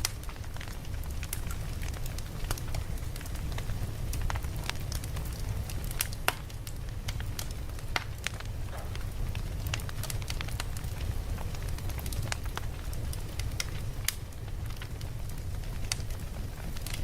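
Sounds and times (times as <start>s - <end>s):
campfire crackling and popping: 0.0s - 17.0s
low rumble of burning fire: 0.0s - 17.0s.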